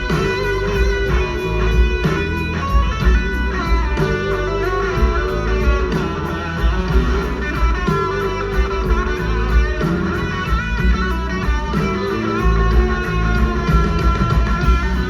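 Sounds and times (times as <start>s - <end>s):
bass and drums: 0.0s - 15.0s
electric guitar: 0.0s - 15.0s.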